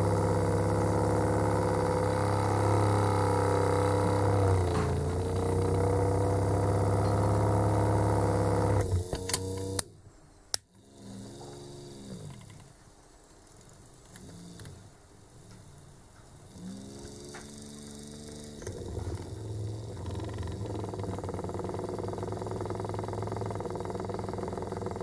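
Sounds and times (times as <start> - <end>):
drill press motor running: 0.0 - 9.9, 10.8 - 12.7, 16.4 - 25.0
motor stopping clicks: 0.0 - 9.9, 10.5 - 12.7, 13.6 - 15.7, 16.4 - 25.0.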